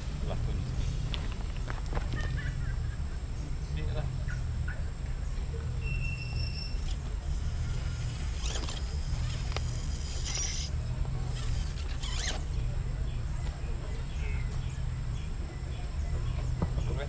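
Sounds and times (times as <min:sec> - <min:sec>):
small electric motor whining: 0:00.0 - 0:14.8
steady low rumble: 0:00.0 - 0:17.0.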